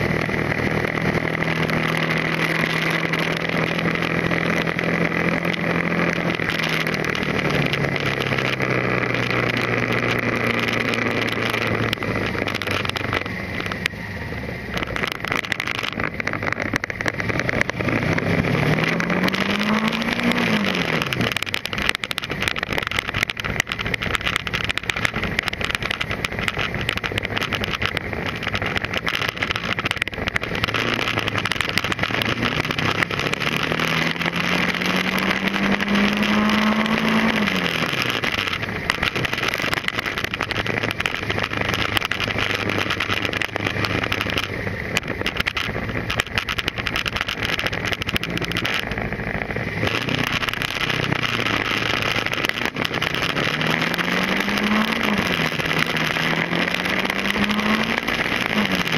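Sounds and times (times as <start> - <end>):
motorcycle engine accelerating: 0.0 - 58.9
wind noise on microphone: 0.0 - 58.9.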